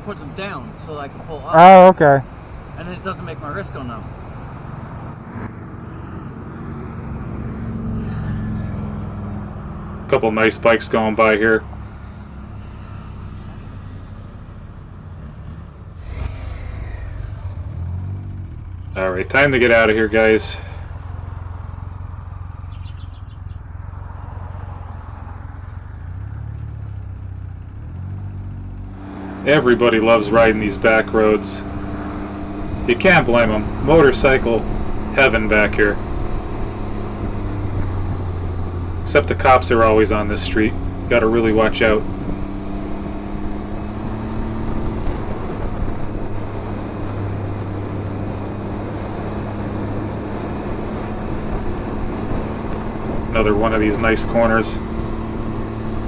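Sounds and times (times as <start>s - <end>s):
motorcycle engine pulling away: 0.0s - 56.0s
wind and road rush: 0.0s - 56.0s.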